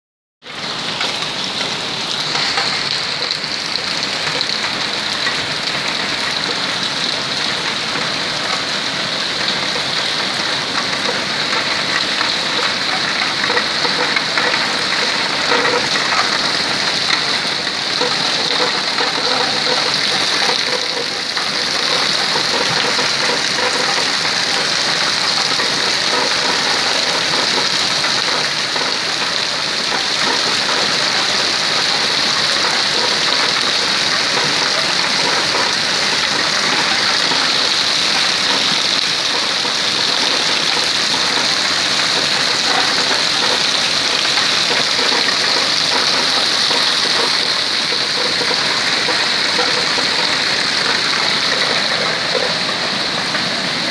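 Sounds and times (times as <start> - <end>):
heavy rain splashing on paving: 0.4 - 53.9.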